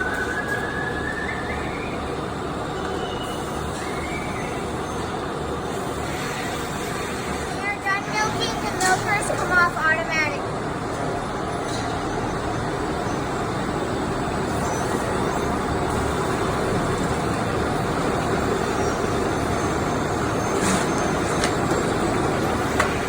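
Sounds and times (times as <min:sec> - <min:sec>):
machinery rumbling with hiss: 0:00.0 - 0:23.0.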